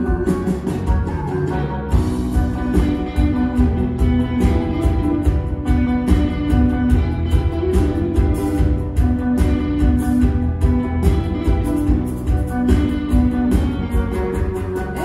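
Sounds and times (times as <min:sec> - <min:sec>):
rock band playing: 0:00.0 - 0:15.0
steady drum beat: 0:00.0 - 0:15.0.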